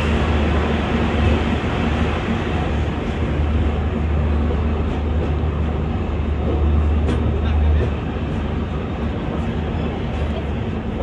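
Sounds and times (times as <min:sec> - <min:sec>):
train rumbling into platform: 0:00.0 - 0:11.0.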